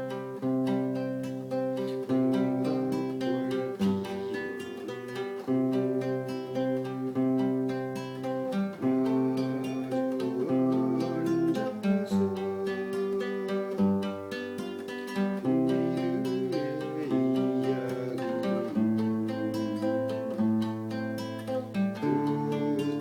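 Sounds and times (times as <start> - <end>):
acoustic guitar strumming chords: 0.0 - 23.0
sustained melody line: 0.0 - 23.0.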